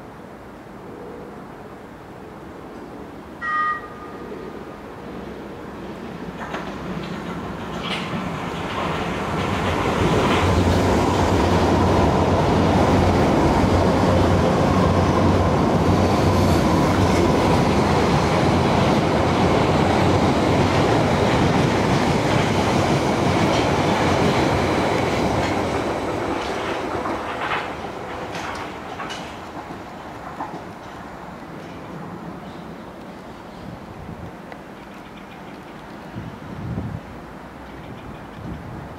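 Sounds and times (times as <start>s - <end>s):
train passing at speed: 0.0s - 38.9s.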